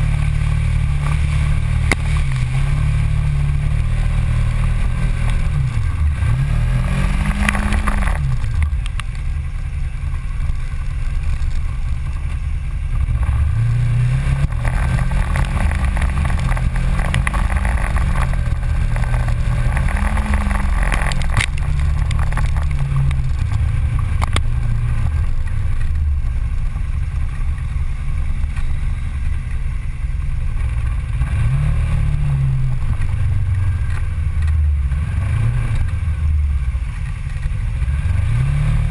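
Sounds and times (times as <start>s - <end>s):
tyre and chassis noise: 0.0s - 38.9s
utility vehicle engine revving: 0.0s - 38.9s.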